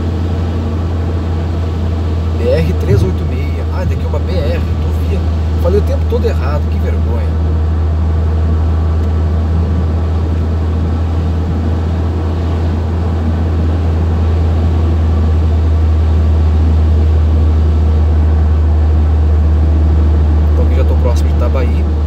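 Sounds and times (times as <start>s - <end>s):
car engine and tyre drone: 0.0s - 22.0s.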